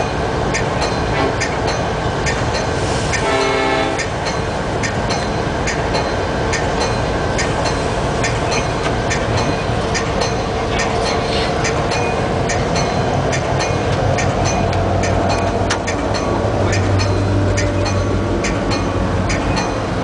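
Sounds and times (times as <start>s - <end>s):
diesel locomotive rumble: 0.0s - 20.0s
locomotive bell clicks: 0.5s - 20.0s.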